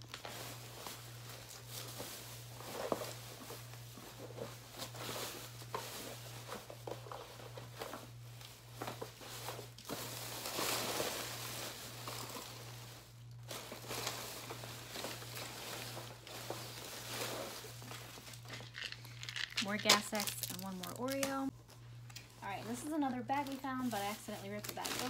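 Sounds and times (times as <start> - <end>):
plastic wrappers rustling: 0.0 - 25.0.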